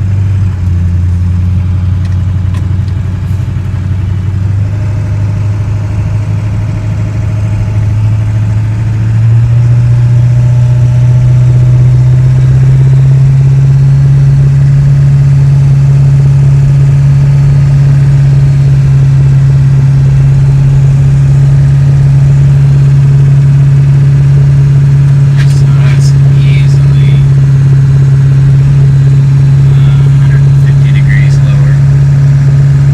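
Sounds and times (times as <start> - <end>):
diesel engine exhaust drone: 0.0 - 32.9.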